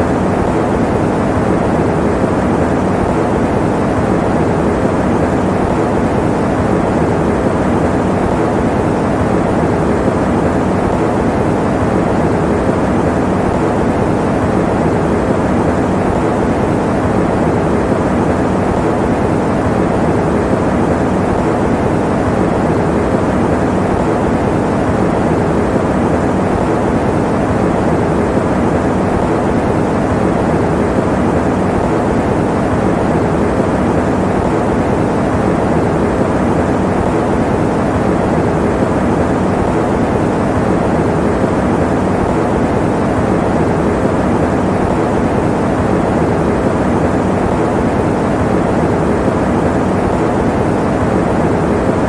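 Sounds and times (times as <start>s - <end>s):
electric fan whirring: 0.0s - 52.0s.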